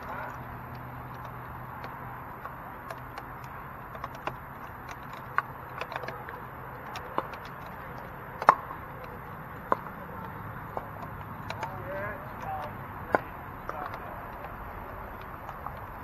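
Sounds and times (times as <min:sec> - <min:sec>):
paddles popping against plastic ball: 0:00.2 - 0:16.0.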